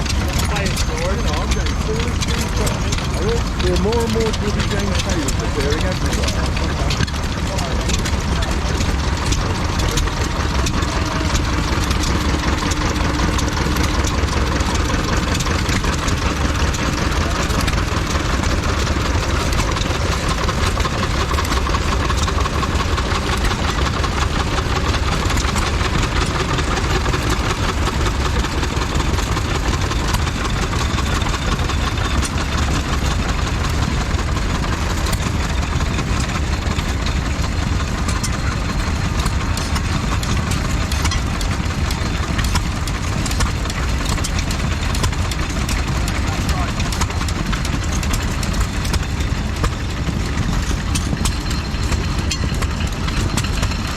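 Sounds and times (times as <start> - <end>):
stationary engine idling: 0.0 - 53.9.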